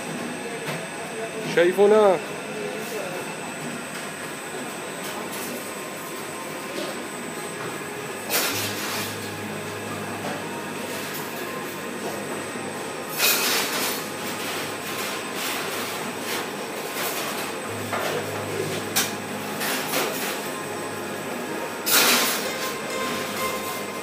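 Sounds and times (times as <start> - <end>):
machine hum with high whine: 0.0 - 24.0.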